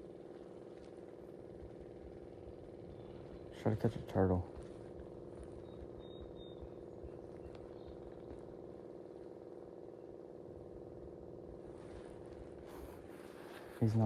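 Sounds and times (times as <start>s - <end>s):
faint motor hum: 0.0s - 14.0s.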